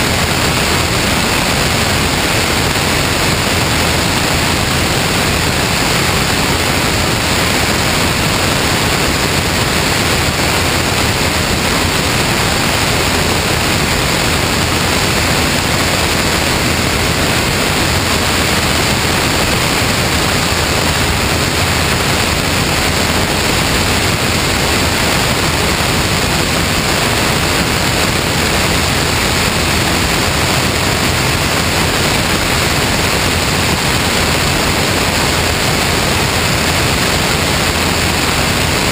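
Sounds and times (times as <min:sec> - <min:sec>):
rushing wind over wing: 0:00.0 - 0:38.9.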